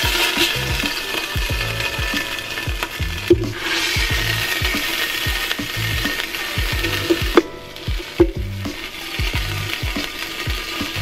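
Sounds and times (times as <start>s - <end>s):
chicken sizzling in oil: 0.0s - 11.0s
metal tongs scraping a pot: 0.0s - 11.0s.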